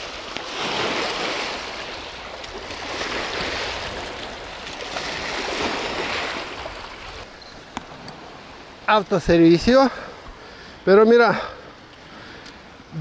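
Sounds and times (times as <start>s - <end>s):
waves washing against shore: 0.0s - 13.0s.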